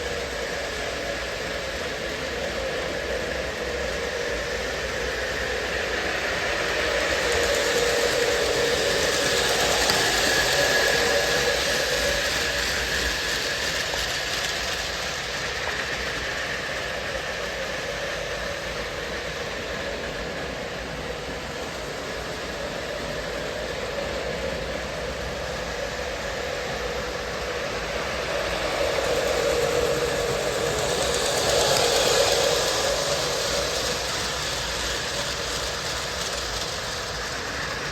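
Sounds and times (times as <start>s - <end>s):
model train rumbling on track: 0.0s - 37.9s.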